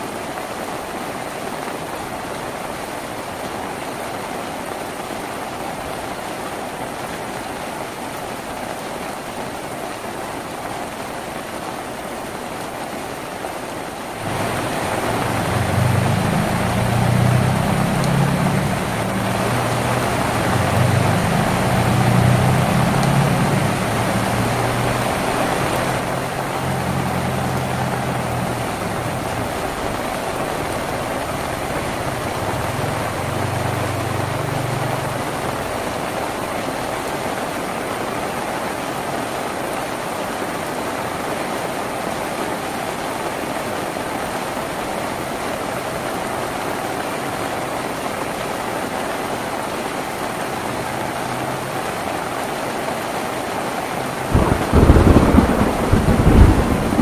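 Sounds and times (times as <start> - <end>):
rain drumming on a tin roof: 0.0 - 57.0.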